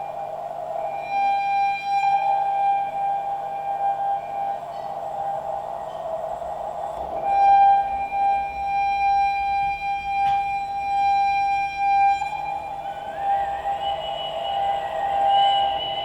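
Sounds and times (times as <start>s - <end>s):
droning hum: 0.0s - 16.0s
sustained drone note: 0.0s - 16.0s.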